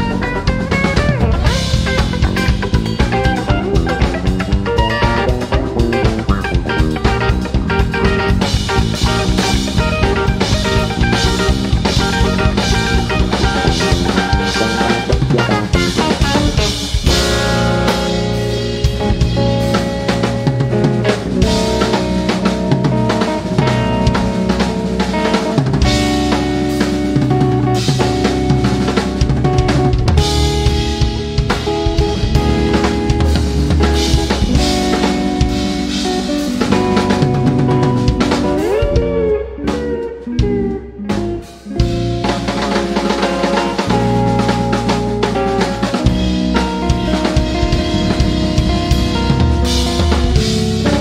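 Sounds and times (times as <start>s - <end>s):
electric bass: 0.0s - 51.0s
electric guitar notes: 0.0s - 51.0s
instrumental rock band playing: 0.0s - 51.0s.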